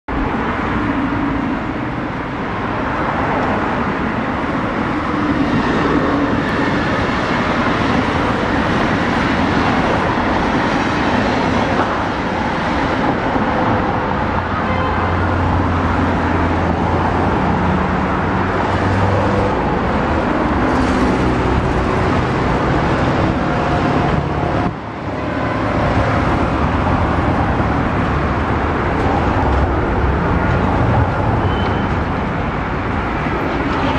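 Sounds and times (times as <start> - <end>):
road traffic rumble: 0.1 - 33.9.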